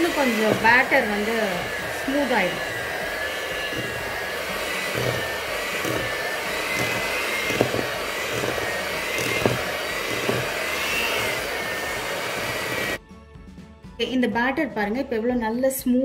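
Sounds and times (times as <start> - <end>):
electric hand mixer whining: 0.0 - 13.0.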